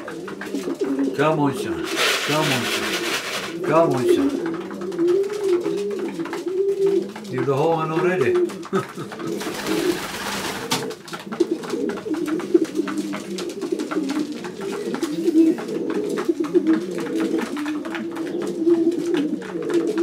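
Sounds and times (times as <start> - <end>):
pigeons cooing: 0.0 - 20.0
sharp clicks and taps: 2.3 - 20.0.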